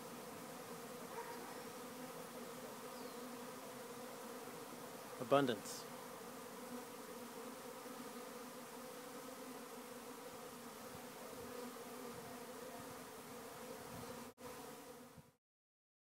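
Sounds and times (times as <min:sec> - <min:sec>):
bees buzzing: 0:00.0 - 0:15.3.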